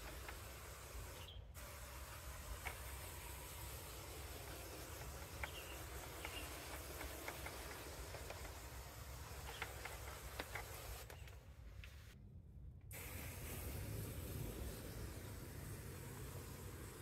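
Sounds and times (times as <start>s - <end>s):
sprayer spray hiss: 0.0s - 11.3s, 12.9s - 17.0s.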